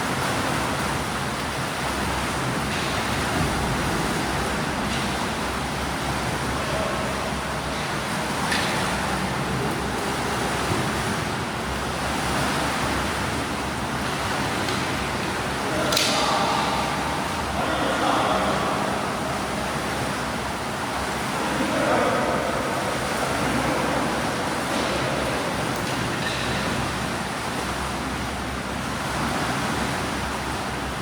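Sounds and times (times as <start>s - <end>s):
swimmers splashing water: 0.0s - 31.0s.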